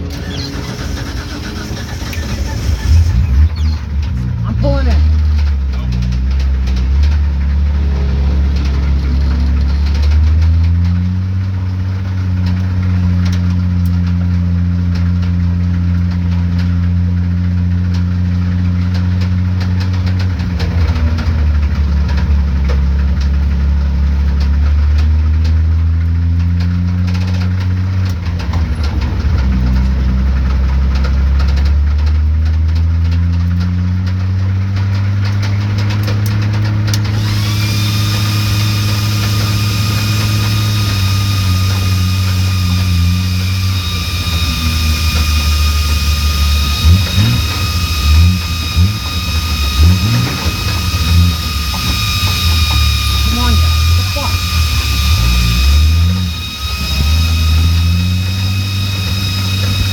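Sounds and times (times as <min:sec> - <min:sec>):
car engine idling with rod knock: 0:02.0 - 0:59.9.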